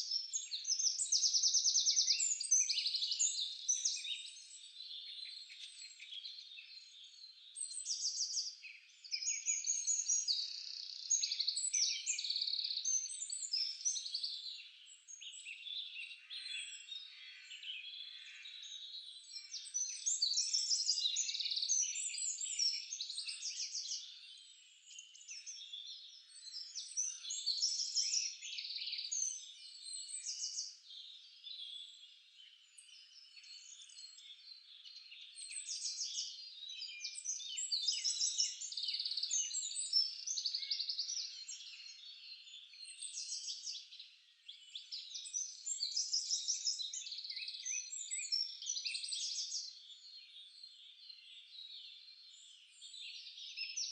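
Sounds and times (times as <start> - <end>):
small birds chirping and trilling: 0.0 - 53.9.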